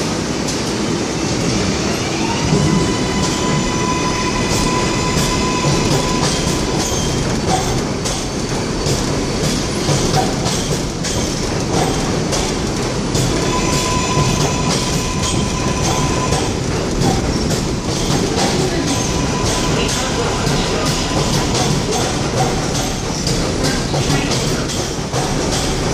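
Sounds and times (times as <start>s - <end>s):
train rumble: 0.0s - 25.9s
train wheels clicking over rail joints: 4.4s - 25.9s.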